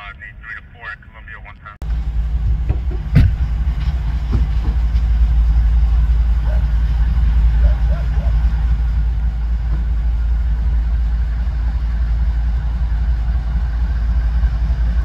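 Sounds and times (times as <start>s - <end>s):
diesel locomotive rumbling: 0.0s - 15.0s.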